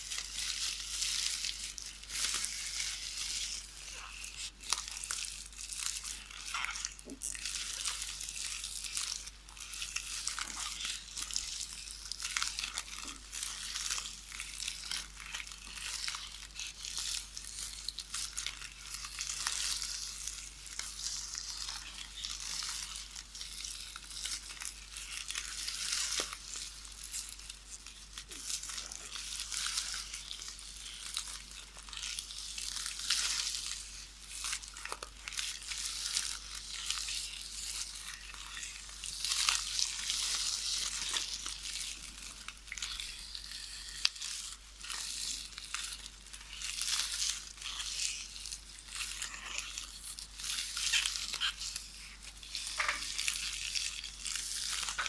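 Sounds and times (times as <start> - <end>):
plastic tape crinkly rustle: 0.0 - 55.0.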